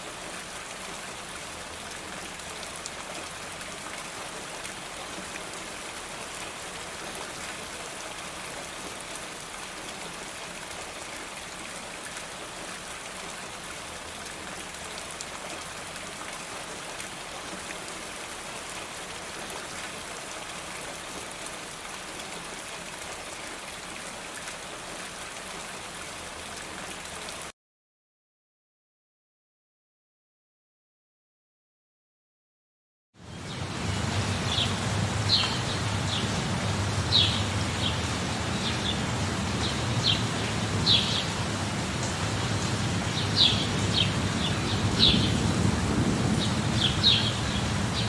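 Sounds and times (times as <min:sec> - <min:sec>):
steady rain falling: 0:00.0 - 0:27.5, 0:33.2 - 0:48.0.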